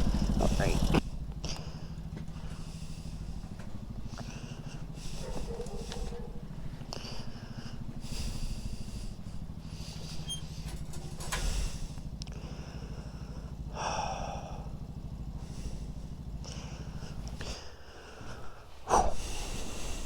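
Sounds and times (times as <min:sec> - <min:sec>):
small motorcycle engine idling: 0:00.0 - 0:20.0.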